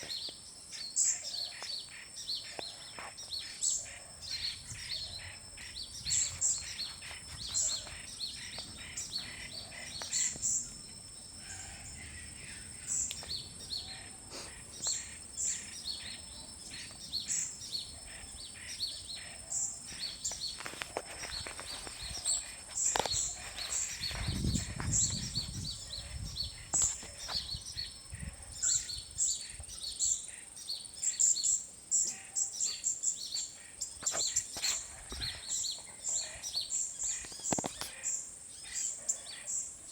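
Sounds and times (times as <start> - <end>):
high insect drone: 0.0 - 39.9
small birds chirping: 0.0 - 39.9.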